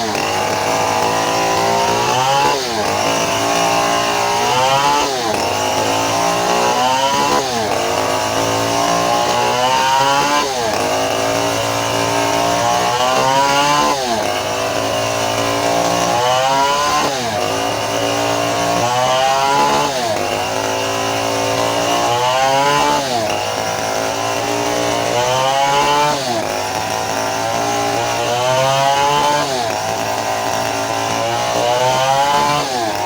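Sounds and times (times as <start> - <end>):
chainsaw cutting log: 0.0 - 33.0.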